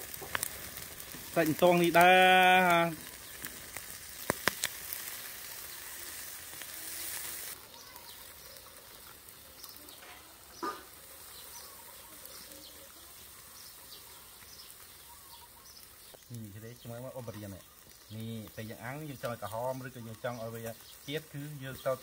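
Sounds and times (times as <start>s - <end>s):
fish sizzling on a grill: 0.0s - 22.0s.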